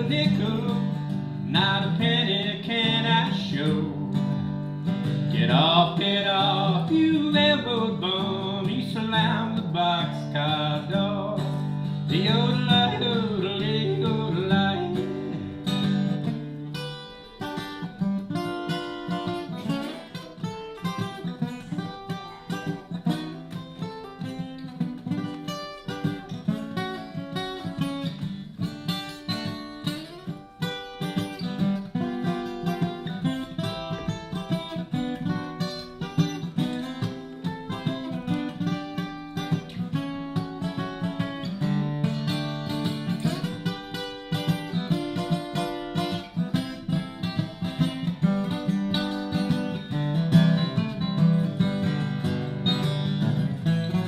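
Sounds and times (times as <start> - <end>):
acoustic guitar picking country: 0.0 - 54.0.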